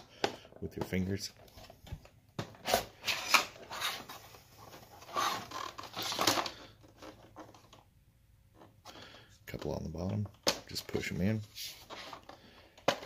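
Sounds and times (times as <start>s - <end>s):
plastic scraping and rattling: 0.0s - 7.9s, 8.5s - 13.0s.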